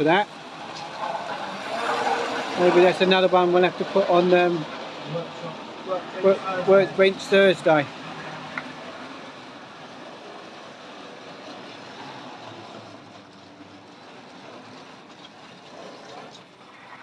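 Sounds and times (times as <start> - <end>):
model locomotive whirring on rails: 0.0 - 17.0.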